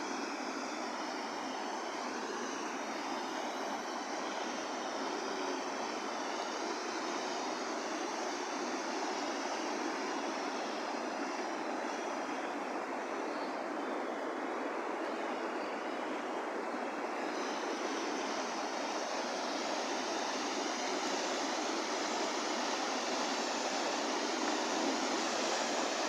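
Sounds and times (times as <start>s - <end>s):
river water rushing over rapids: 0.0s - 26.0s.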